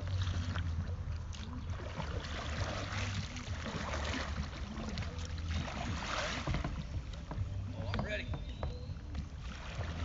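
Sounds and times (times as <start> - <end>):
paddle strokes splashing: 0.0 - 10.0
water swirling around hull: 0.0 - 10.0.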